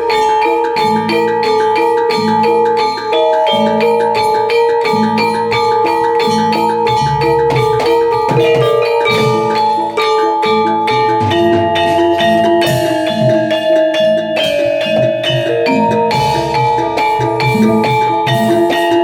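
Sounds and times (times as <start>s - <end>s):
drum patterns: 0.0s - 19.0s
gamelan bronze mallet strikes: 0.0s - 19.0s.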